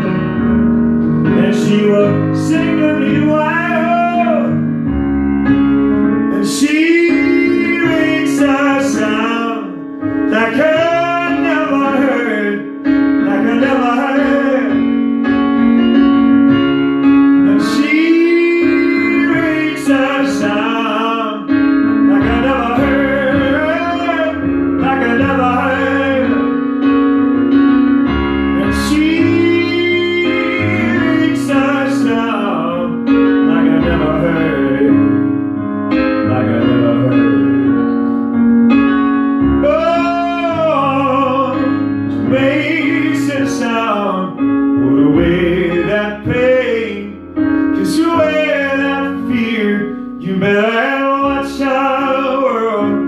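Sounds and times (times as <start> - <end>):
singer holding wordless notes: 0.0 - 15.8, 17.0 - 27.0, 28.2 - 53.0
keyboard chord: 0.0 - 53.0.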